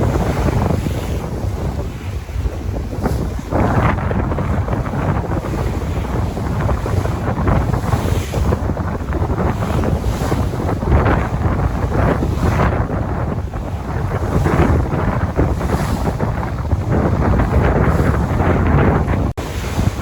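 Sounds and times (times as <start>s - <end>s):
sea waves washing in: 0.0s - 20.0s
wind buffeting microphone: 0.0s - 20.0s.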